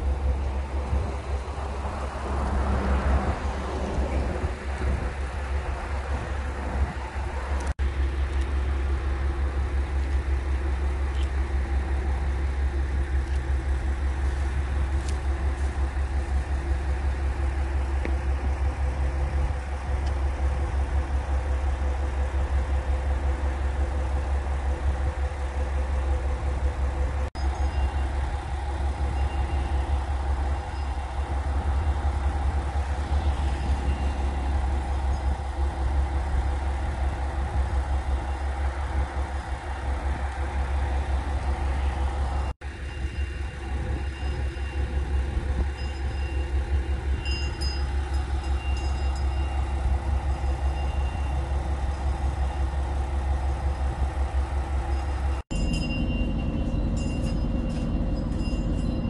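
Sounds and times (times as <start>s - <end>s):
diesel railcar engine idling: 0.0s - 59.0s.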